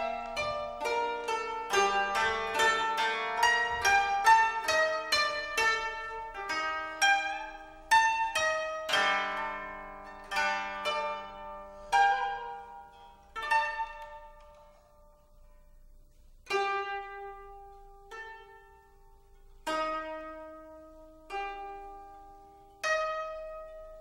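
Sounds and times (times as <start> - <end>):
koto plucking: 0.0 - 24.0.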